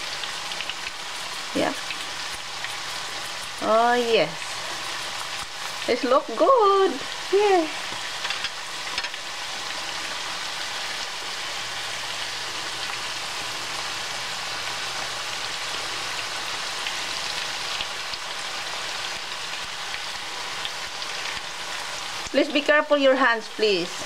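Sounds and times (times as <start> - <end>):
slices sizzling in hot oil: 0.0 - 24.0.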